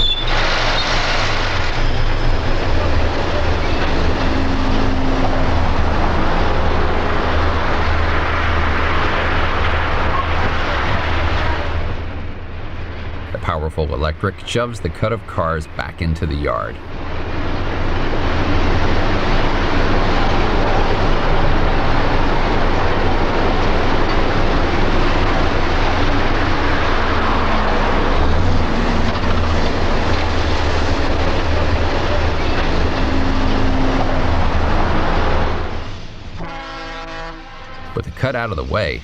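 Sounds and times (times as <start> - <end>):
freight train rolling: 0.0 - 39.0.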